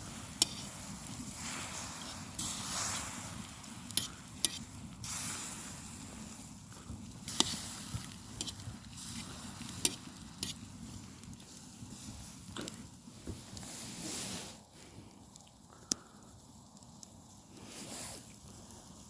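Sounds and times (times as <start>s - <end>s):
pot hissing and sizzling: 0.0s - 14.9s, 17.5s - 19.0s.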